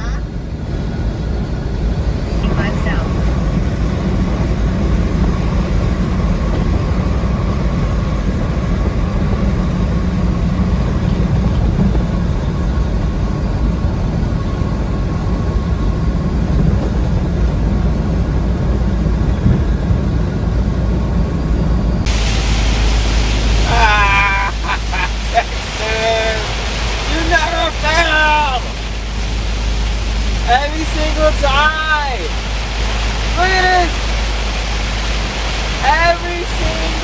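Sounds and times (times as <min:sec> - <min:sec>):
faint steady whine: 0:00.0 - 0:37.0
road noise: 0:00.0 - 0:37.0
truck engine drone: 0:00.0 - 0:37.0.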